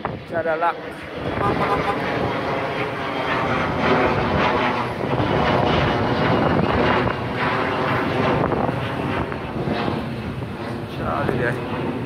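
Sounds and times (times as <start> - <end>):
rushing vehicle noise: 1.2 - 12.0.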